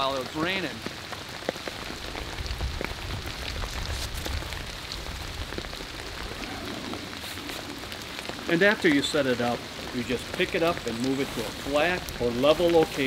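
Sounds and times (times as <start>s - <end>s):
raindrops striking close by: 0.0s - 13.0s
steady rain falling: 0.0s - 13.0s.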